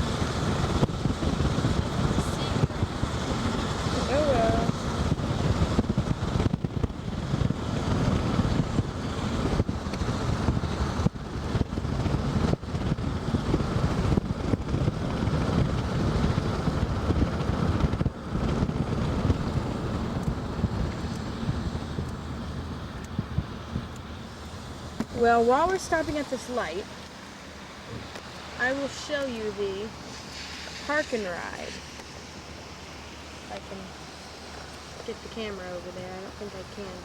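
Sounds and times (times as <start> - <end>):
car driving rumble: 0.0 - 37.0
wind buffeting microphone: 0.0 - 37.0.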